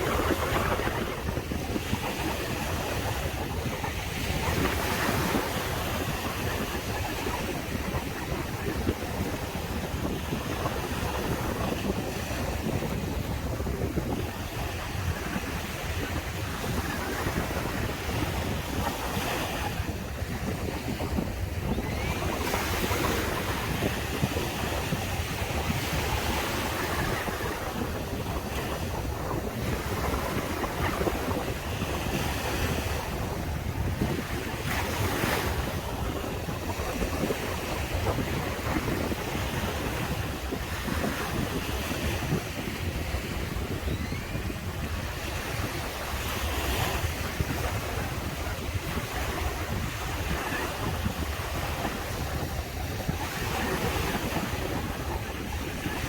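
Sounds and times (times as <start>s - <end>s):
waves breaking on beach: 0.0s - 56.0s
wind on microphone: 0.0s - 56.0s.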